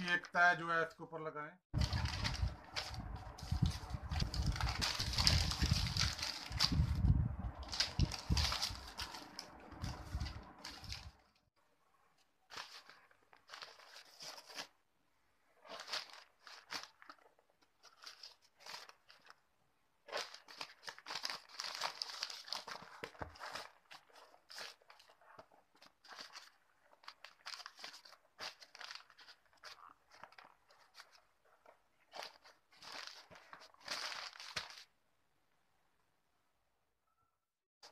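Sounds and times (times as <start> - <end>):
newspaper rustling and crinkling: 1.8 - 11.4, 12.4 - 35.0.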